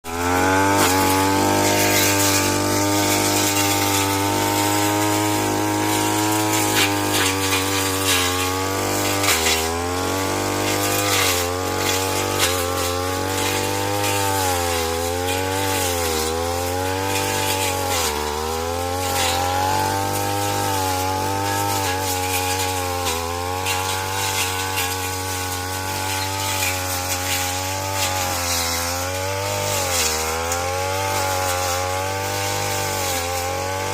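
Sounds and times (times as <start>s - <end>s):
brush cutter engine running: 0.0s - 33.9s.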